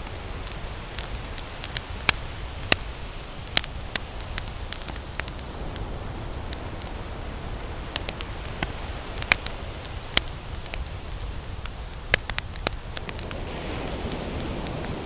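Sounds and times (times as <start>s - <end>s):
campfire crackling and popping: 0.0s - 15.0s
low steady fire rumble: 0.0s - 15.0s.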